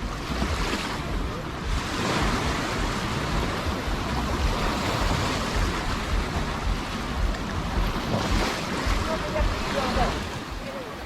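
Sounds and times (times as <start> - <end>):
surf washing onto beach: 0.0 - 11.0
wind rumbling on microphone: 0.0 - 11.0.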